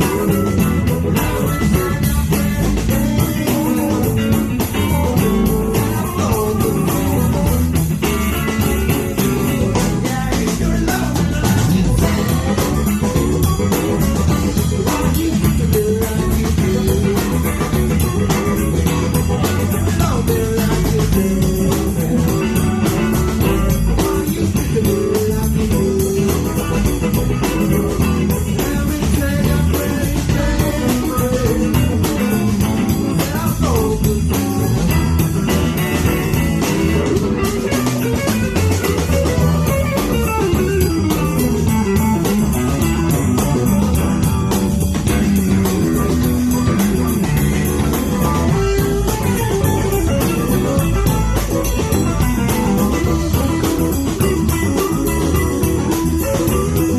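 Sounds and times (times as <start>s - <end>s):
blues band playing: 0.0s - 56.9s
electric guitar lead line bending: 0.0s - 56.9s.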